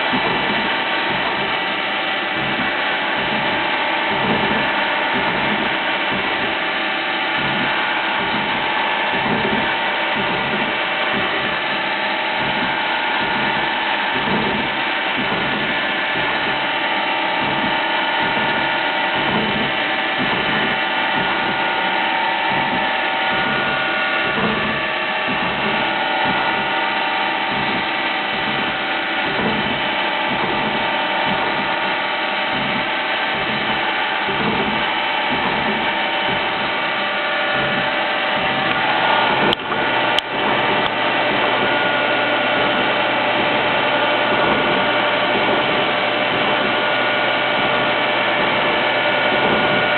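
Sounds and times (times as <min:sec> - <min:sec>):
fast uneven rattle: 0:00.0 - 0:49.9
milling machine steady tones: 0:00.0 - 0:49.9.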